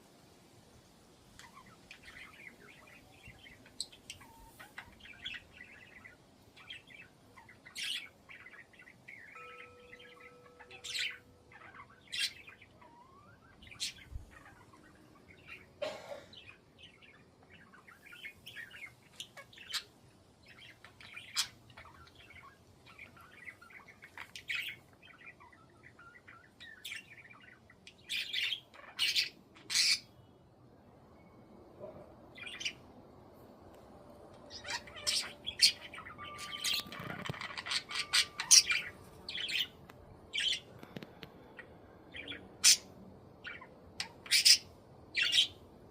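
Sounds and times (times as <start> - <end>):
budgerigars chirping: 1.4 - 15.7, 16.4 - 19.9, 20.5 - 30.1, 34.4 - 40.7, 41.6 - 45.6.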